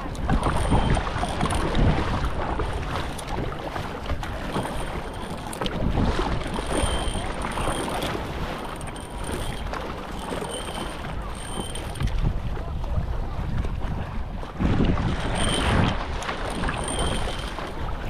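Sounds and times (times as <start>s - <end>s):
paddle splashing in water: 0.0s - 18.0s
wind buffeting microphone: 0.0s - 18.0s.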